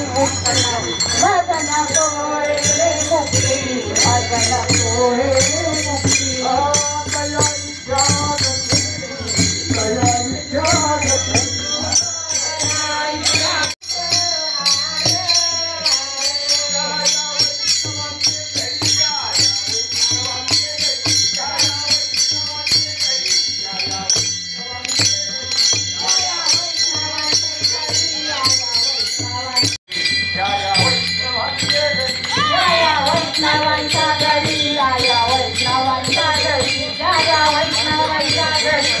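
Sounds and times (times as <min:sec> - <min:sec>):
hand cymbals ringing: 0:00.0 - 0:39.0
men singing devotional song: 0:00.0 - 0:39.0.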